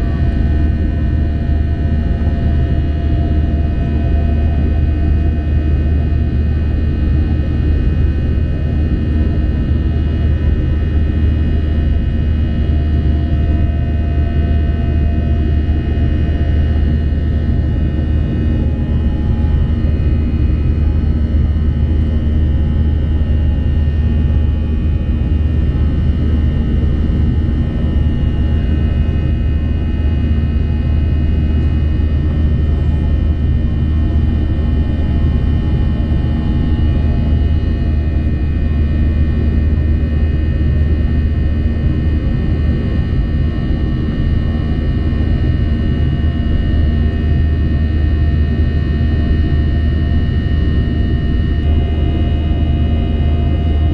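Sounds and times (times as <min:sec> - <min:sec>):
jet airliner cabin rumble: 0:00.0 - 0:53.9.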